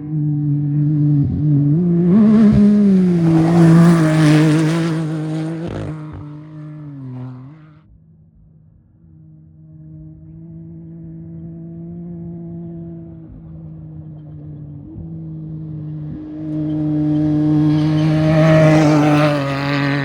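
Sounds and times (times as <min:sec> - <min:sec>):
vehicle engine passing at speed: 0:00.0 - 0:07.8, 0:09.5 - 0:20.0.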